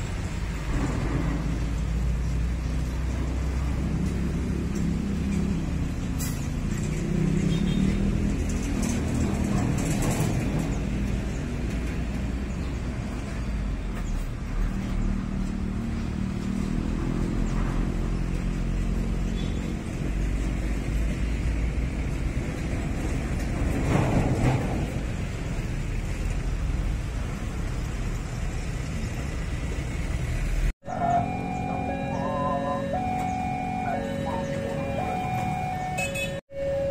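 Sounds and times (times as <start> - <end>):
traffic noise: 0.0 - 36.9.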